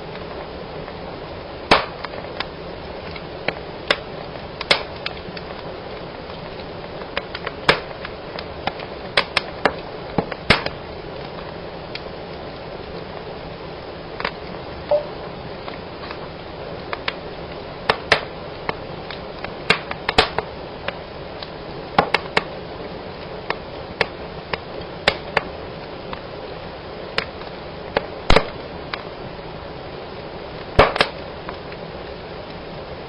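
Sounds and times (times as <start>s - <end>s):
fire crackling and snapping: 0.0s - 33.0s
hiss of fire flames: 0.0s - 33.0s.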